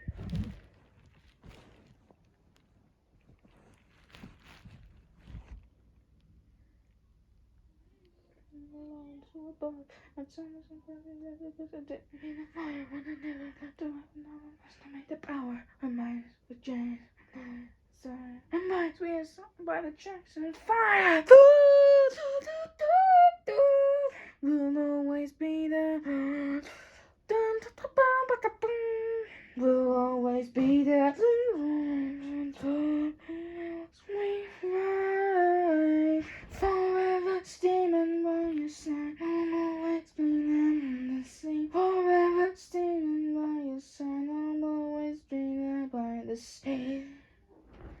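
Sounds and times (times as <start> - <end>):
woman singing slow melody: 8.5 - 47.3.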